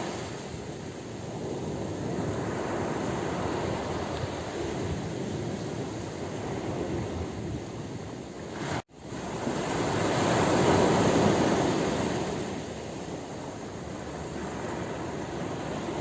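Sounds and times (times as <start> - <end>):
ocean waves rushing: 0.0 - 16.0
wave surging and washing in: 0.0 - 16.0.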